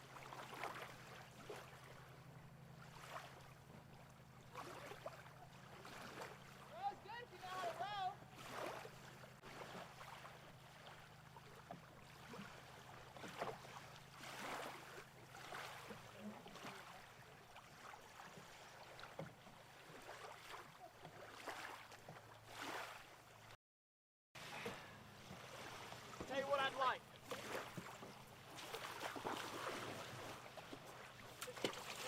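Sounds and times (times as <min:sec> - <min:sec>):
soft water splashes: 0:00.0 - 0:23.6, 0:24.4 - 0:32.0.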